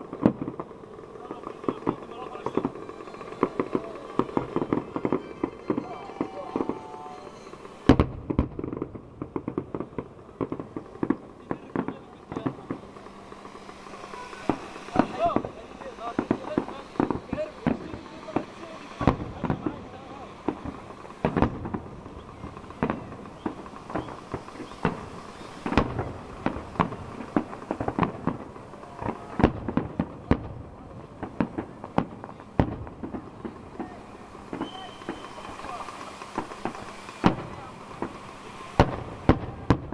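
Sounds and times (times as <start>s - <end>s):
firework bang: 0.0s - 39.9s
fireworks popping and crackling: 0.0s - 39.9s.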